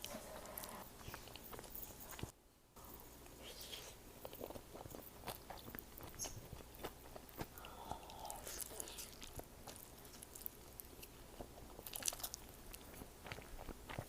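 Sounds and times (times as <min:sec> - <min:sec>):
biting and chewing: 0:00.0 - 0:02.3, 0:04.2 - 0:14.0.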